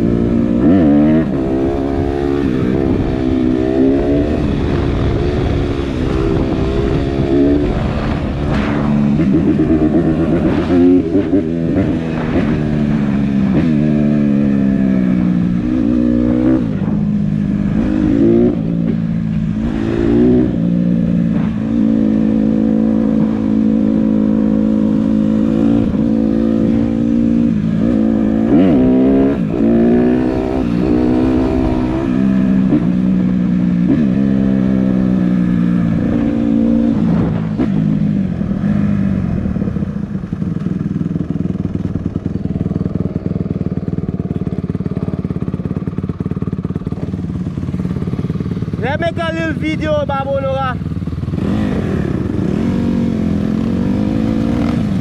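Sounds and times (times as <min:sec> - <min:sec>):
dirt bike engine revving: 0:00.0 - 0:40.4, 0:41.1 - 0:55.0.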